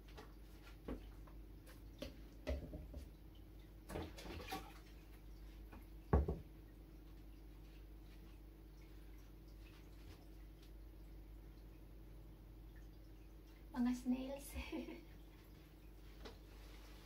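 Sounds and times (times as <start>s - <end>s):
faint steady hum: 0.0s - 17.0s
water drips: 0.0s - 17.0s.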